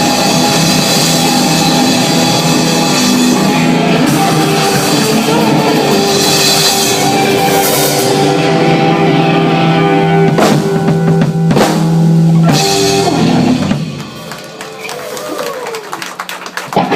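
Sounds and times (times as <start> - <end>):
rock band held chord: 0.0 - 16.9.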